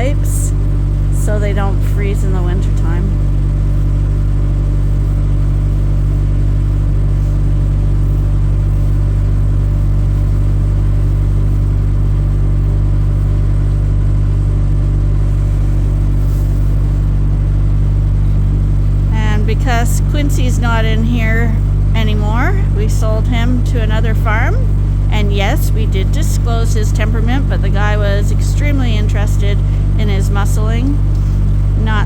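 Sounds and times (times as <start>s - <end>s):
farm machine engine droning: 0.0s - 32.0s.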